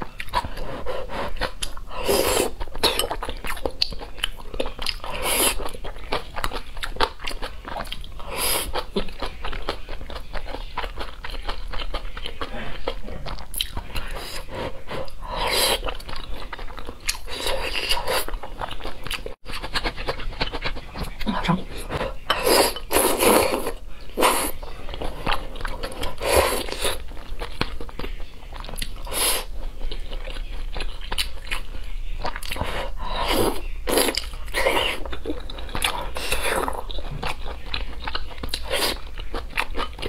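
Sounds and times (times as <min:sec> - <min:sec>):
wet chewing mouth sounds: 0:00.0 - 0:40.0.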